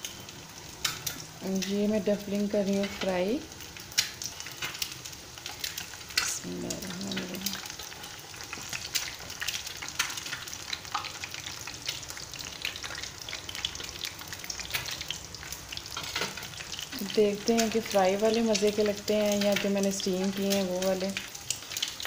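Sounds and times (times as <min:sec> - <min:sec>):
oil sizzling and popping: 0:00.0 - 0:22.0.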